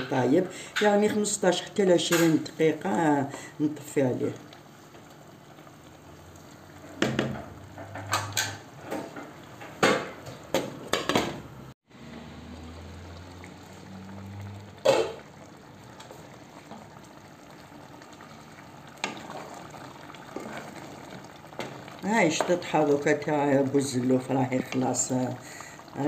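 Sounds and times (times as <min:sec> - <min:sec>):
stew simmering: 0:00.0 - 0:11.1, 0:11.9 - 0:26.0.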